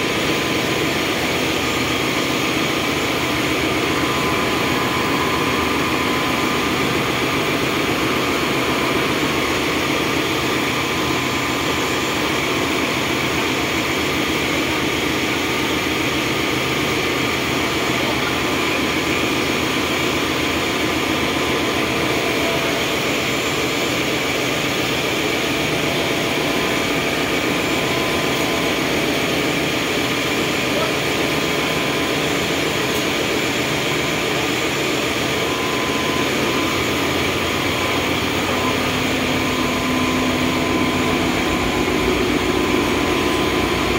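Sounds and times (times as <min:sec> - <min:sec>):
engine-room machinery drone: 0:00.0 - 0:43.9.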